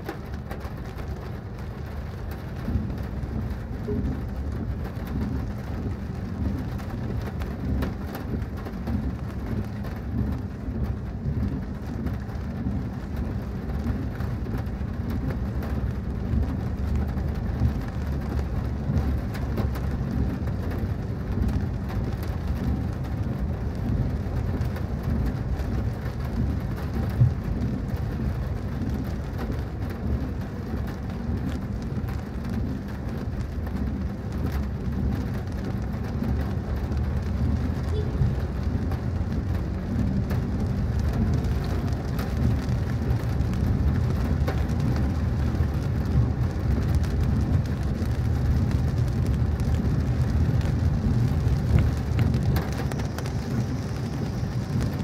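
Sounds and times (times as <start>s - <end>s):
heavy rain on a car: 0.0s - 55.0s.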